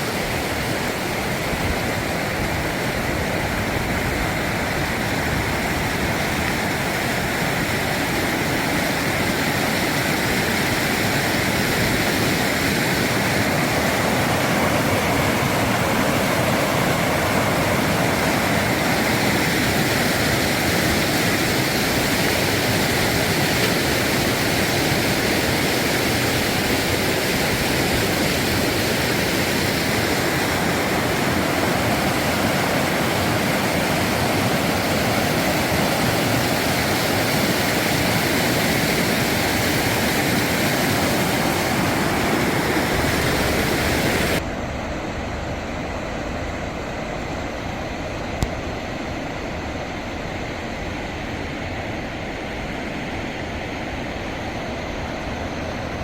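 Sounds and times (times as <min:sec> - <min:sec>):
water rushing over rocks: 0:00.0 - 0:53.6.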